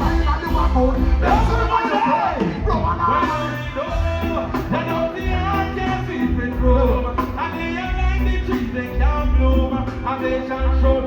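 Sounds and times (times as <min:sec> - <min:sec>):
heavy bass line: 0:00.0 - 0:11.0
person singing: 0:00.0 - 0:11.0
reggae band playing: 0:00.0 - 0:11.0.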